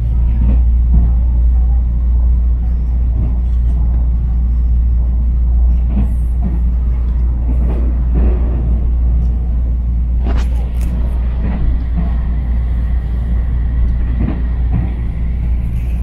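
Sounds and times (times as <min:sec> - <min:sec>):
train rumble from inside carriage: 0:00.0 - 0:16.0.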